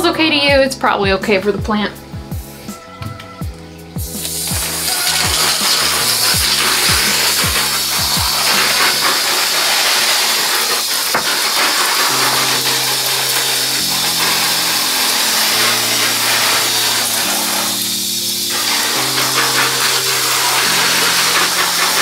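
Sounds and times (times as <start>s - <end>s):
music with slow held chords: 0.0s - 10.5s, 11.8s - 22.0s
shower sprayer hissing water: 3.9s - 22.0s.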